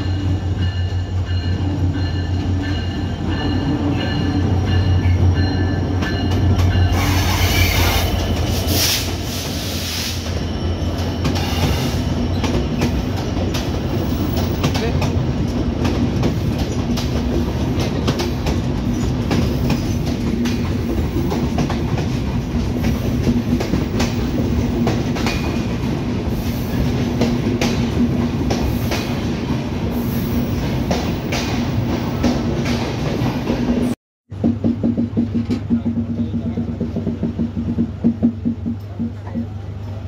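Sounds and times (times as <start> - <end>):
train wheels clicking over joints: 0.6 - 39.5.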